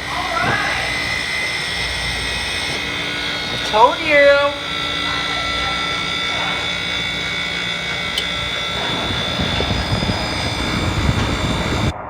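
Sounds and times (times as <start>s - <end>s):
ice machine droning: 0.0s - 12.0s.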